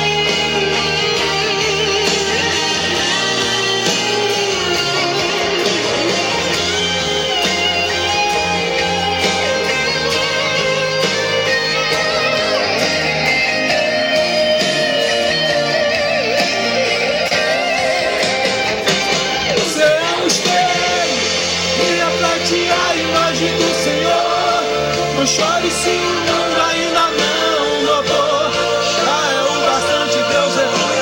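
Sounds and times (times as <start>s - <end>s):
bass and drums: 0.0s - 31.0s
electric guitar melody: 0.0s - 31.0s.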